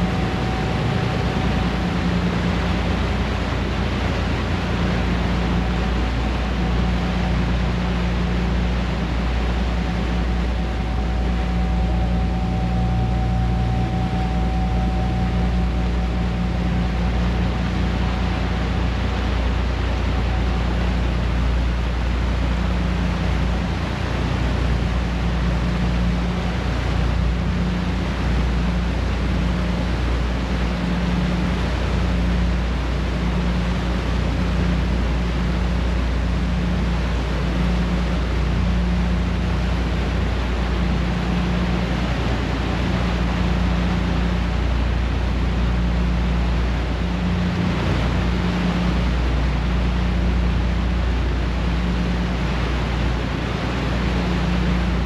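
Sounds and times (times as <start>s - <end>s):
faint steady whine: 0.0s - 55.0s
ferry engines humming: 0.0s - 55.0s
wake rushing: 0.0s - 55.0s.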